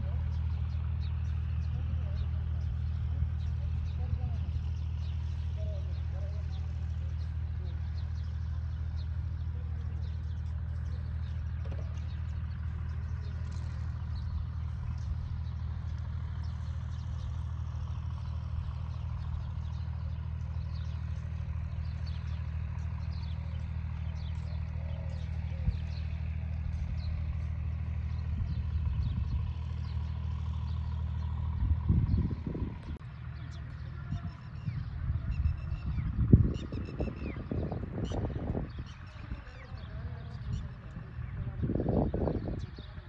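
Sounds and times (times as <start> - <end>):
engine droning: 0.0 - 43.0.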